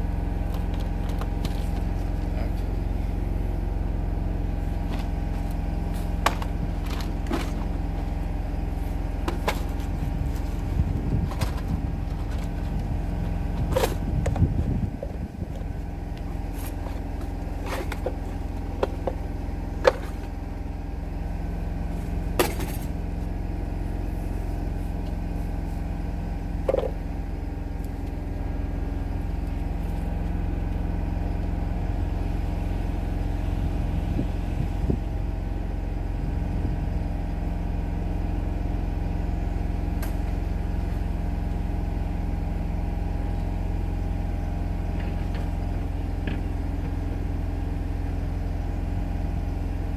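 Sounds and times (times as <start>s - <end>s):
engine idling: 0.0s - 49.9s.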